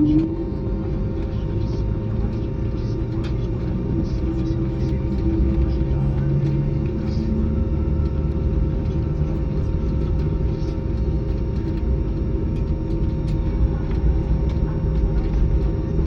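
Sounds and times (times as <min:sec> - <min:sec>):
airplane cabin rumble: 0:00.0 - 0:16.0
mid-pitched hum: 0:00.0 - 0:16.0.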